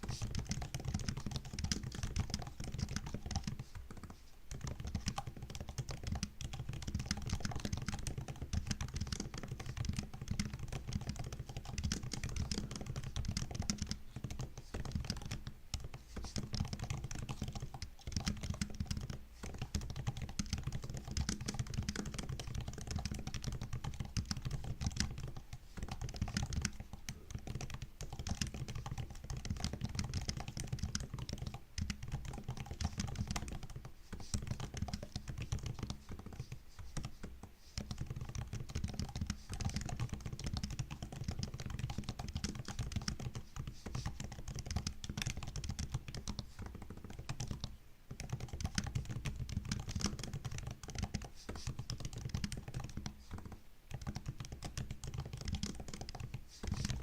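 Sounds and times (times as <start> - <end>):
laptop keyboard typing: 0.0 - 57.0.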